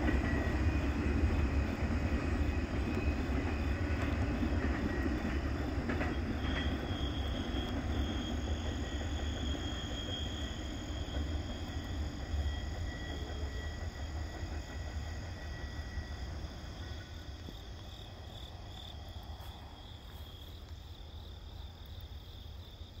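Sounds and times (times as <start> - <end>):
freight train rumble: 0.0 - 23.0
insects trilling: 0.0 - 23.0.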